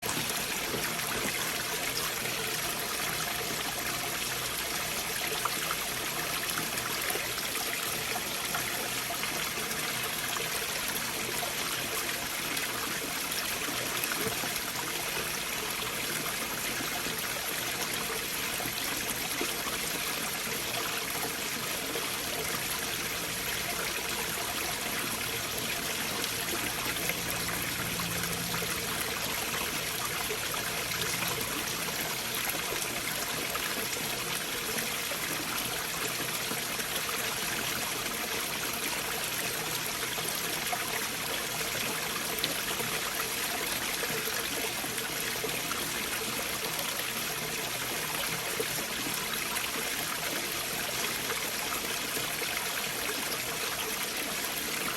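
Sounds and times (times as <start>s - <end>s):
stream rushing under boulders: 0.0s - 54.9s.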